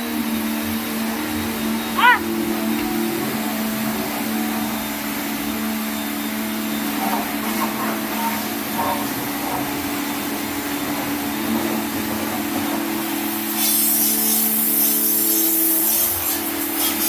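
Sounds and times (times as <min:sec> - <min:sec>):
pressure washer running: 0:00.0 - 0:17.0.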